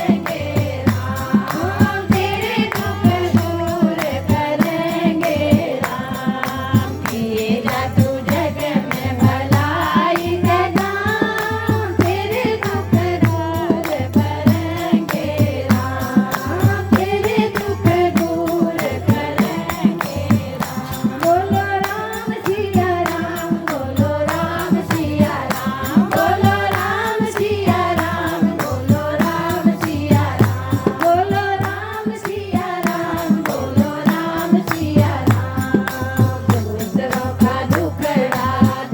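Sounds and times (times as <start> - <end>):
devotional singing: 0.0 - 38.9
percussion beat: 0.0 - 38.9.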